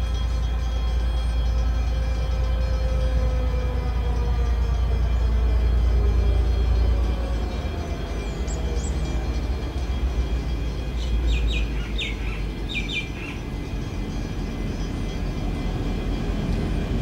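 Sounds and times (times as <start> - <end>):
low railway rumble: 0.0 - 17.0
birds chirping: 1.2 - 17.0.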